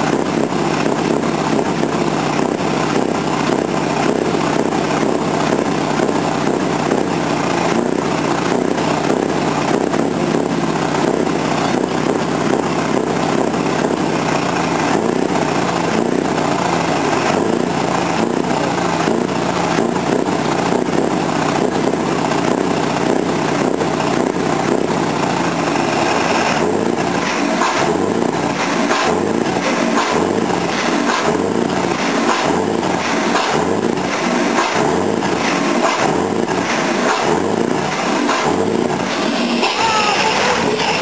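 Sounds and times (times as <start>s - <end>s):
diesel truck engine running: 0.0s - 41.0s.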